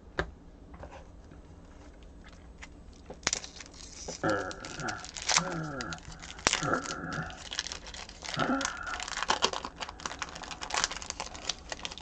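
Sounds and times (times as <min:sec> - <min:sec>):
wrapper crinkling and tearing: 0:02.2 - 0:12.0.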